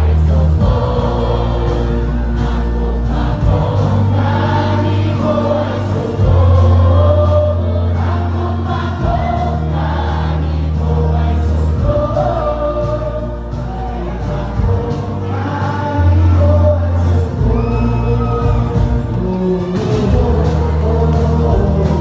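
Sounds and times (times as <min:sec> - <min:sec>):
group of voices singing: 0:00.0 - 0:22.0
sustained bass line: 0:00.0 - 0:22.0.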